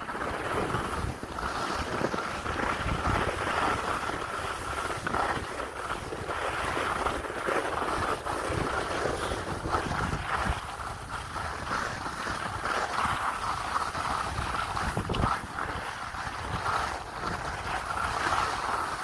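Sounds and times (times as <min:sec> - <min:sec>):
wind buffeting microphone: 0:00.0 - 0:18.2
skis scraping over snow: 0:00.0 - 0:19.0.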